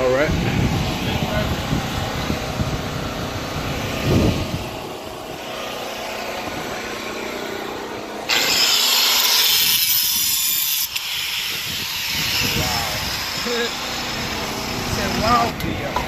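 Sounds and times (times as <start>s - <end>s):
power saw cutting: 0.5s - 16.0s.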